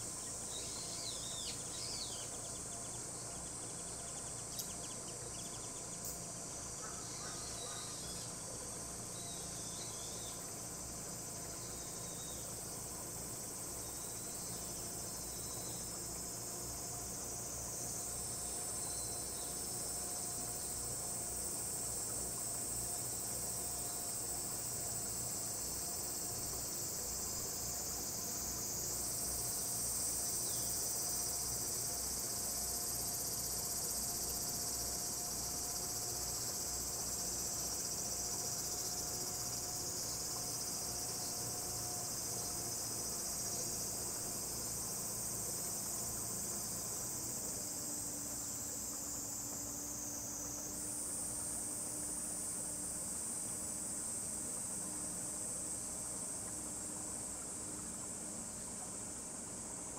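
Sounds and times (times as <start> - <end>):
insects buzzing shrilly: 0.0 - 59.9.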